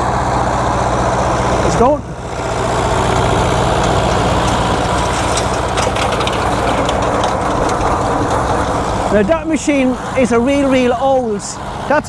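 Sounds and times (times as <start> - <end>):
tractor engine running: 0.0 - 12.0
machinery ticks and rattles: 0.9 - 12.0.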